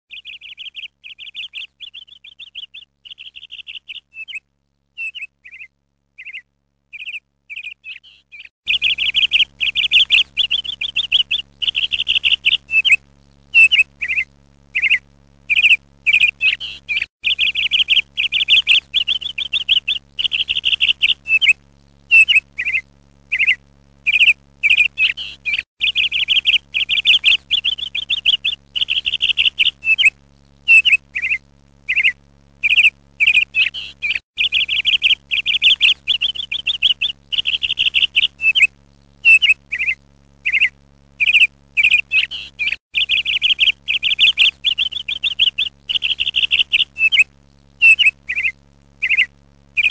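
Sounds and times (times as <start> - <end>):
bird chirping: 0.1 - 13.0, 13.6 - 30.1, 30.7 - 49.9.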